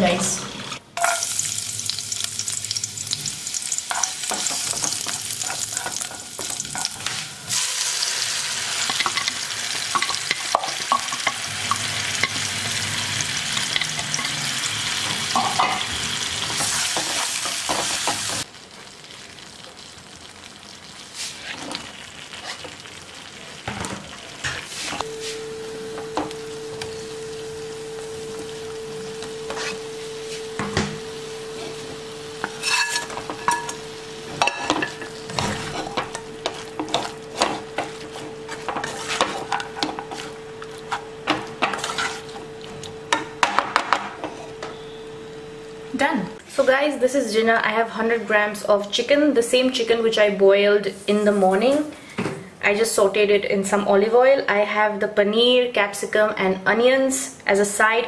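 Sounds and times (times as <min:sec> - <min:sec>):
food sizzling in oil: 0:00.0 - 0:46.8, 0:50.8 - 0:52.1.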